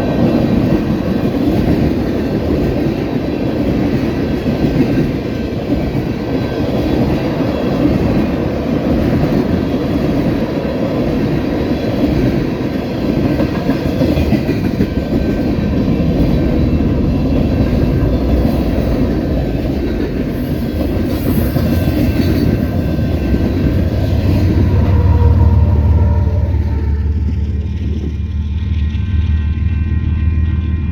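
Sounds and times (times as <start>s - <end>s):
freight train wheels rumbling: 0.0s - 30.9s.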